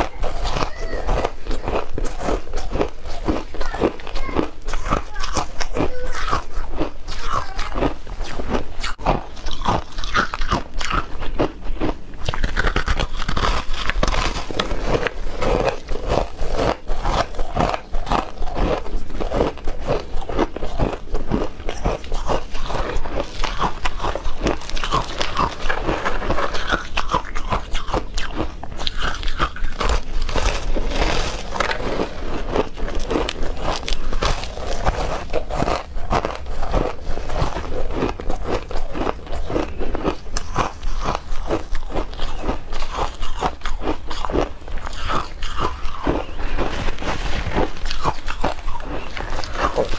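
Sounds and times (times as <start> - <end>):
crunching and chewing ice: 0.0 - 49.9.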